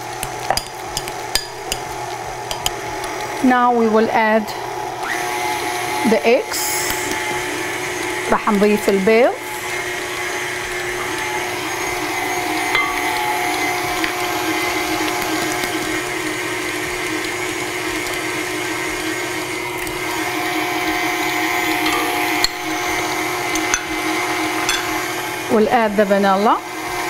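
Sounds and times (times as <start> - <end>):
electric stand mixer running: 0.0 - 27.0.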